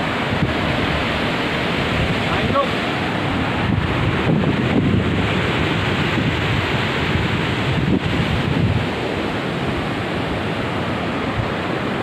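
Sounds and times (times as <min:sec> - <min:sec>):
river rushing over rocks: 0:00.0 - 0:12.0
wind buffeting microphone: 0:00.0 - 0:12.0.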